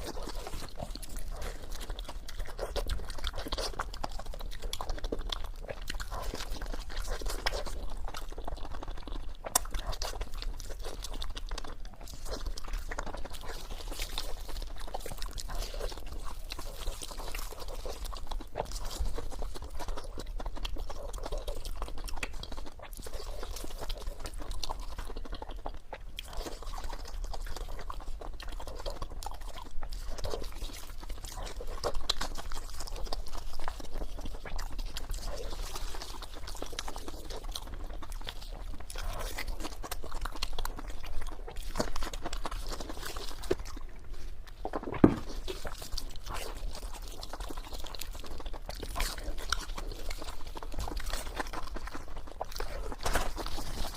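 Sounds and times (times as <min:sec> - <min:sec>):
chewing and crunching food: 0:00.0 - 0:53.9.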